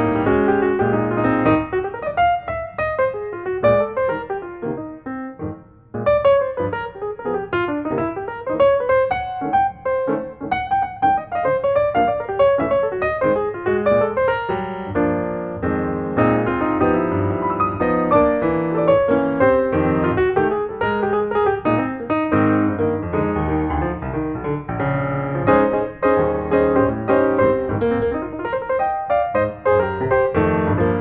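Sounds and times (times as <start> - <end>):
background piano music: 0.0 - 31.0.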